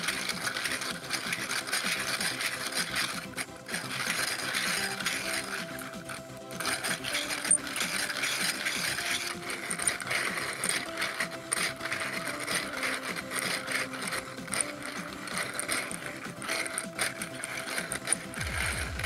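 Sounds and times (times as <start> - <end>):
plastic engine model clattering: 0.0 - 19.0.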